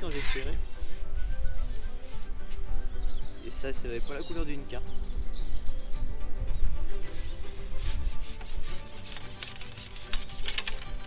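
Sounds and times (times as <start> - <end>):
rubbing noise: 0.0 - 4.0, 5.8 - 11.0
background music with held notes: 0.0 - 11.0.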